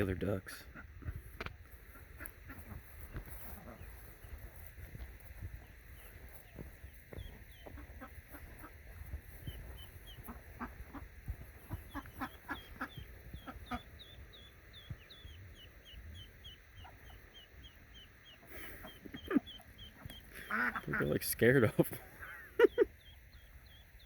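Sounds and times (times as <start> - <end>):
ducklings peeping: 0.0 - 24.0.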